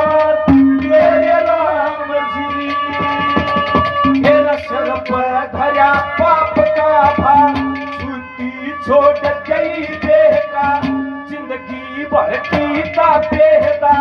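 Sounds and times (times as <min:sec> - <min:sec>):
hand drum strokes: 0:00.0 - 0:14.0.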